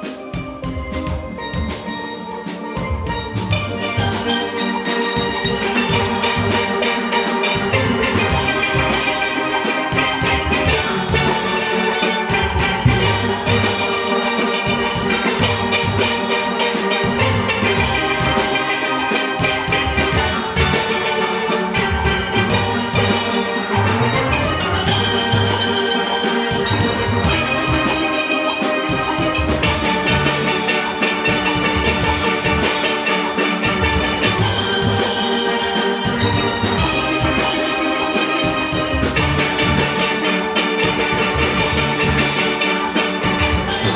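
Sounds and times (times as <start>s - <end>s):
drum kit rhythm: 0.0s - 43.9s
steel pans playing melody: 0.0s - 43.9s.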